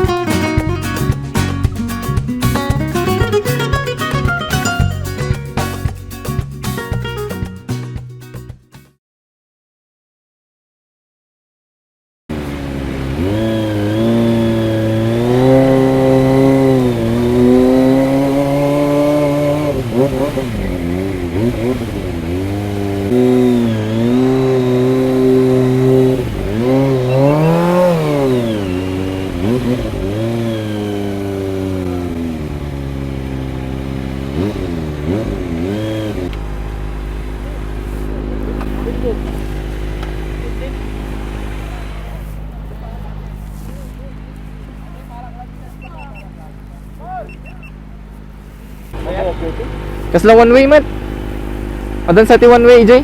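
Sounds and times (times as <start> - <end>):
motorcycle engine accelerating: 0.0 - 7.6, 12.3 - 53.0.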